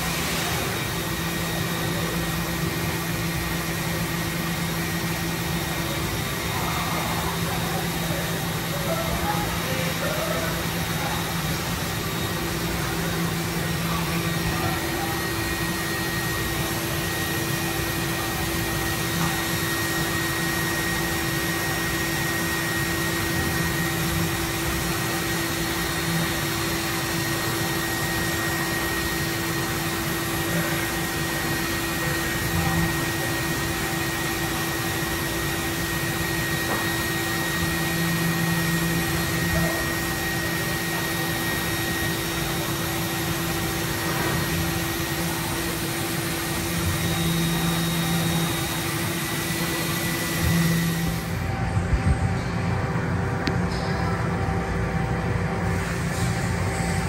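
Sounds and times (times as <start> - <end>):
machining center whirring: 0.0 - 57.0.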